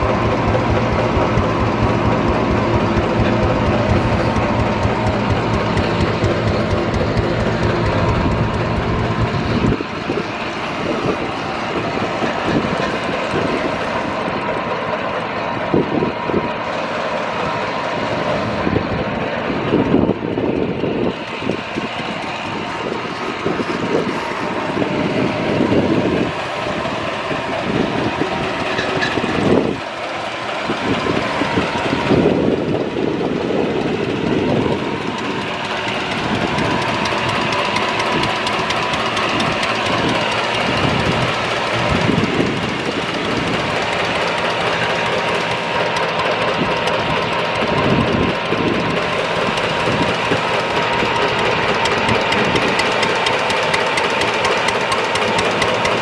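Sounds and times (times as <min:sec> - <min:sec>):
gas engine chuffing: 0:00.0 - 0:56.0.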